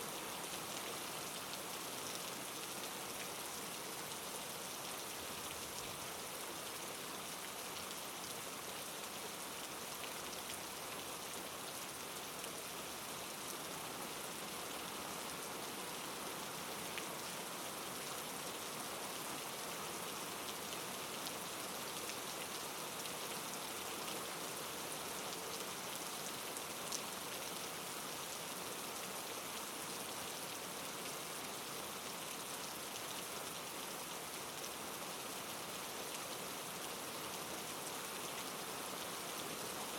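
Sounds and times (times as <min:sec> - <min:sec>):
rainfall: 0:00.0 - 0:39.9.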